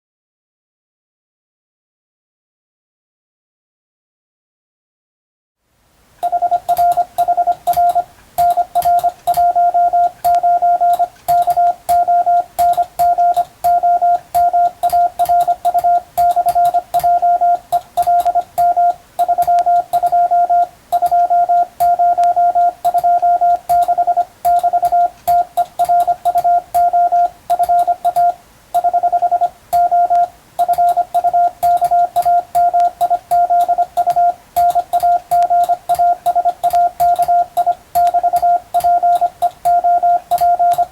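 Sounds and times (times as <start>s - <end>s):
morse code beeps: 6.2s - 40.9s
telegraph key clicks: 6.2s - 40.9s.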